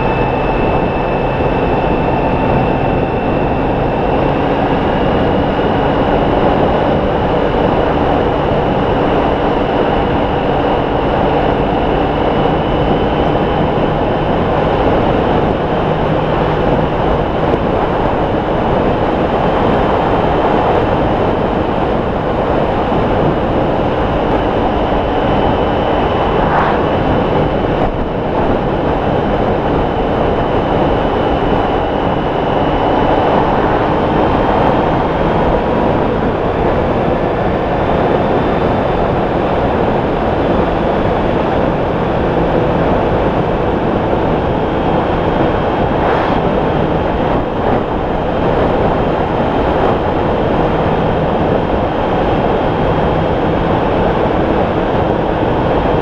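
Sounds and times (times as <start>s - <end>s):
motorcycle engine drone: 0.0s - 56.0s
wind and road noise: 0.0s - 56.0s.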